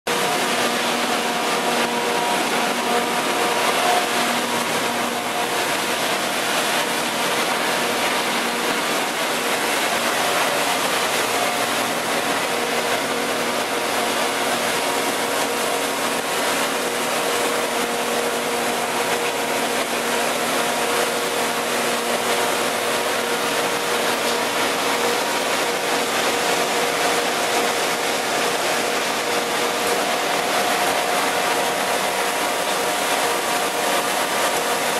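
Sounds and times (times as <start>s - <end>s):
sawdust crusher machine running: 0.1s - 34.9s.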